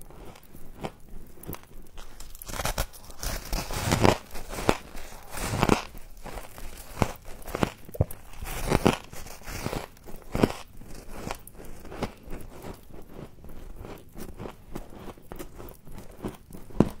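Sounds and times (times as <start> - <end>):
crunching frost while chewing: 0.0 - 17.0.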